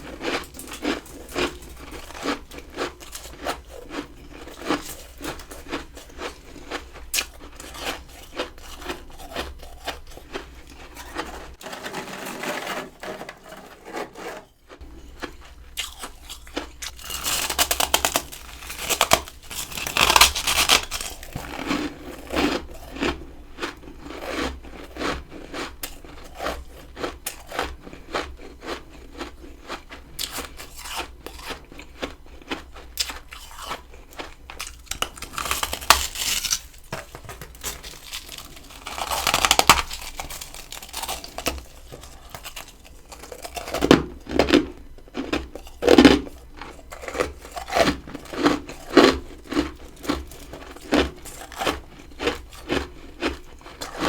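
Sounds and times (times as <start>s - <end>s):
person crunching frost: 0.0s - 31.8s, 32.4s - 54.0s.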